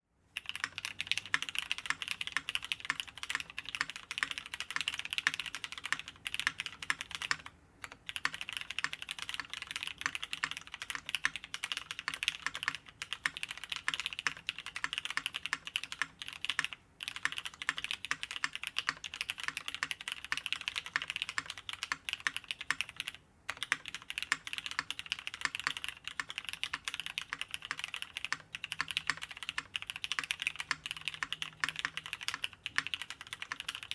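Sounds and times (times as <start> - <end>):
fast mechanical keyboard typing: 0.4 - 33.9.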